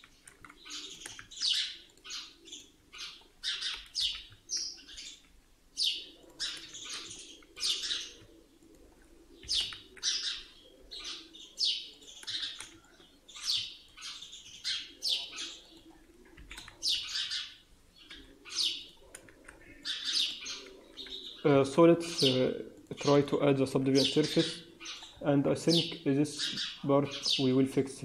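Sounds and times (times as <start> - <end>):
small bird chirping: 0.0 - 23.3, 23.9 - 27.5.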